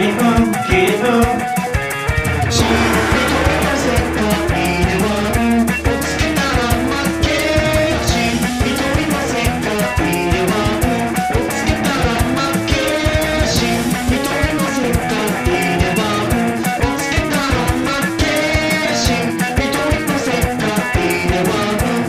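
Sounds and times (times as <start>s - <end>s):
rock guitar: 0.0s - 22.0s.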